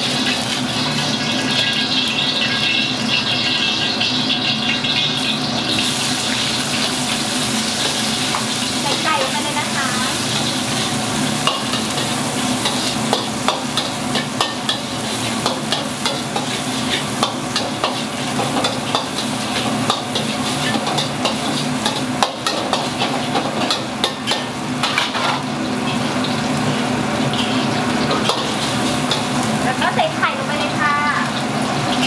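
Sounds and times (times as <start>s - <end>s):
rice sizzling in a wok: 0.0s - 32.0s.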